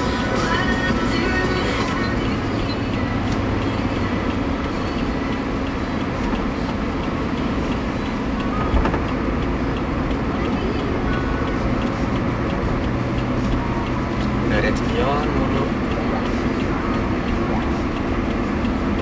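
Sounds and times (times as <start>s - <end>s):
car driving at highway speed: 0.0s - 19.0s.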